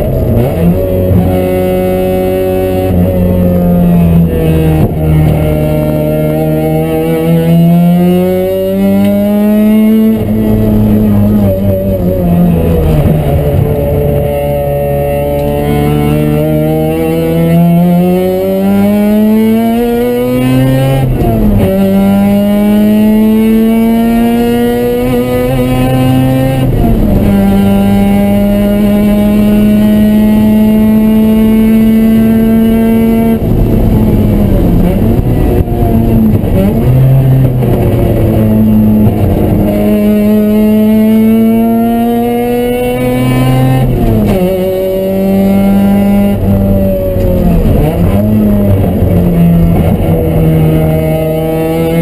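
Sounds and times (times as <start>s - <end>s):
rotary engine accelerating: 0.0s - 52.0s.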